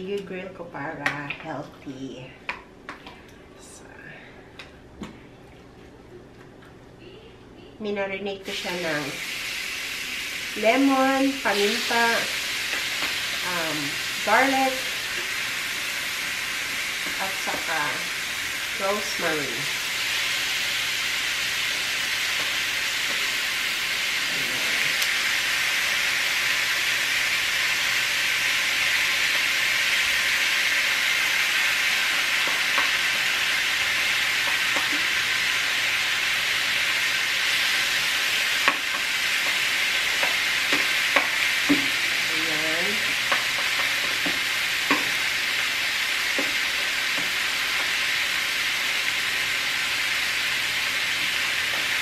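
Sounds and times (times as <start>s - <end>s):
chicken sizzling on grill: 8.4s - 52.0s.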